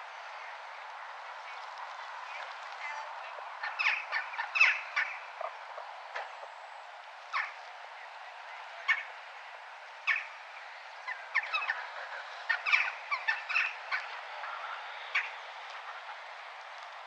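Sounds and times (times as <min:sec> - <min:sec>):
hum of town noise: 0:00.0 - 0:17.0.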